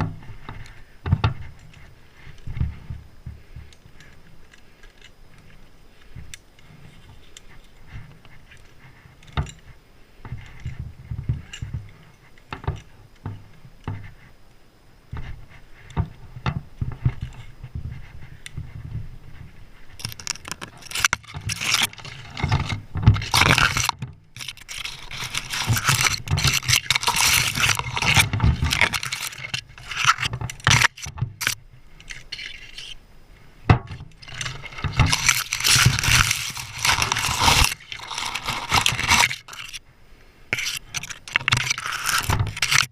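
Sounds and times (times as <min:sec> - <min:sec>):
branches scraping against gear: 0:00.0 - 0:14.4, 0:15.2 - 0:39.8, 0:40.5 - 0:42.9.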